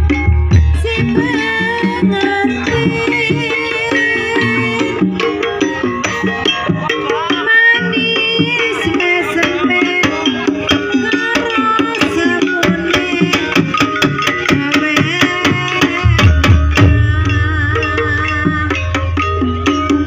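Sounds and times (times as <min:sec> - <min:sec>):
hand drums in fast pattern: 0:00.0 - 0:20.0
wavering high melody: 0:00.0 - 0:20.0.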